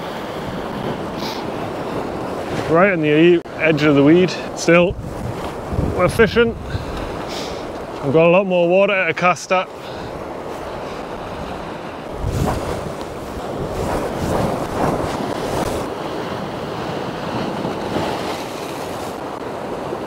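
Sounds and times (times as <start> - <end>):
wind buffeting microphone: 0.0 - 8.1, 9.8 - 20.0
waves breaking on shore: 0.0 - 20.0.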